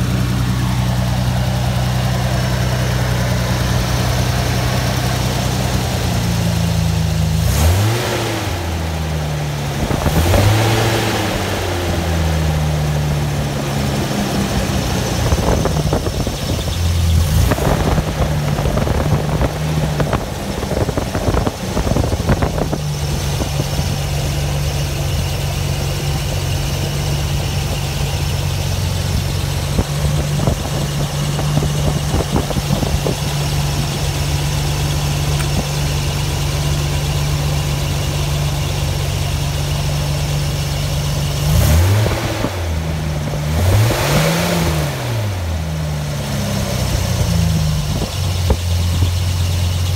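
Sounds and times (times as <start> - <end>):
car engine idling and revving: 0.0 - 49.9.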